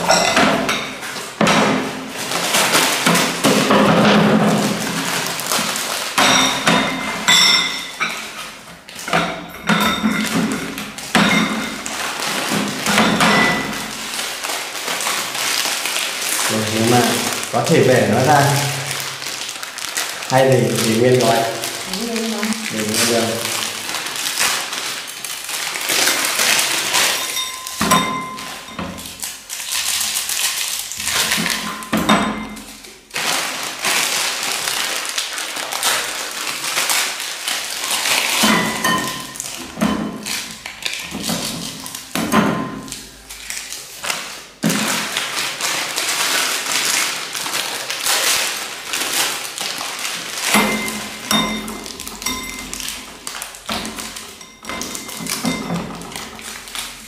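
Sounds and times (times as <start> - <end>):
packets rustling and tearing: 0.0 - 57.0.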